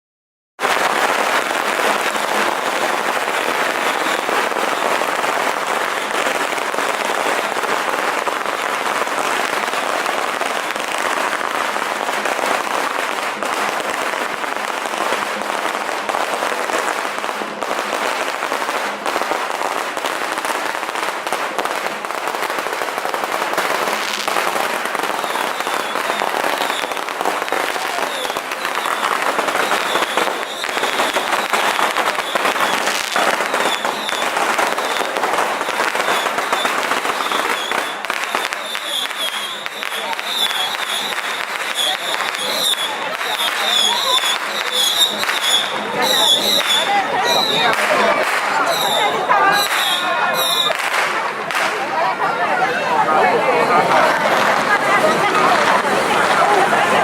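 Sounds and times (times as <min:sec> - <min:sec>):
firecrackers crackling: 0:00.6 - 0:57.0.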